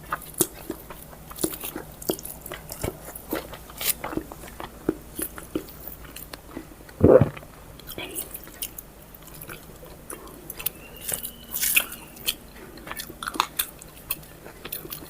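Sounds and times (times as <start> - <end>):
wet chewing with smacks: 0.0 - 15.0.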